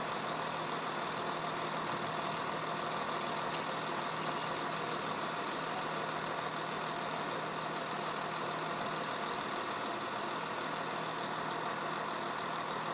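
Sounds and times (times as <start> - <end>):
distant diesel engine drone: 0.0 - 12.9.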